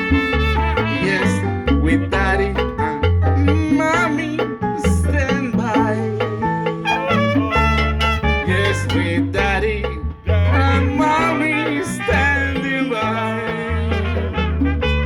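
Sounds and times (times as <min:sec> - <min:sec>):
latin song with bass and vocals: 0:00.0 - 0:15.0.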